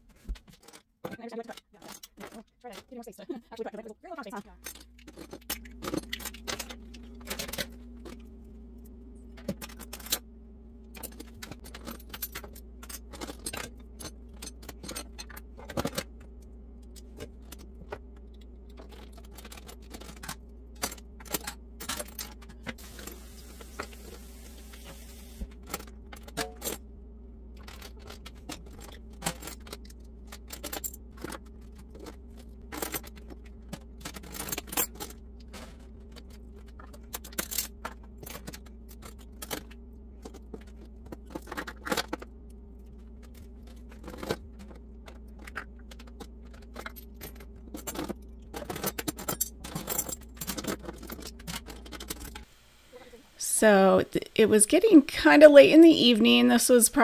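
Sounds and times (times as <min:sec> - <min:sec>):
steady low hum: 0:01.9 - 0:57.0.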